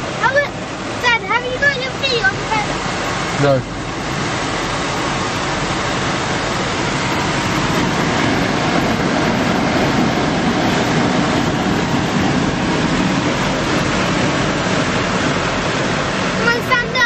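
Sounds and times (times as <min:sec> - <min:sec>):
car wash water spray: 0:00.0 - 0:17.0
low rumble: 0:01.6 - 0:17.0.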